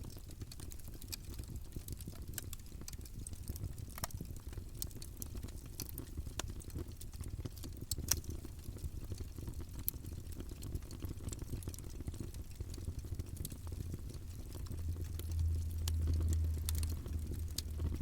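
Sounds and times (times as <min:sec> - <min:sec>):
campfire flames rumbling: 0:00.0 - 0:18.0
wood crackling and popping: 0:00.0 - 0:18.0.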